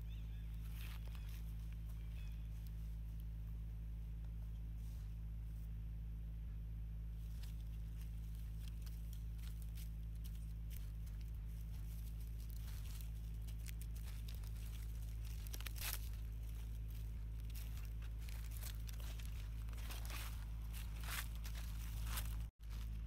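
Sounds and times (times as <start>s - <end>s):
steady low hum: 0.0s - 23.0s
dry leaves crackling and rustling: 0.1s - 3.5s, 7.2s - 23.0s.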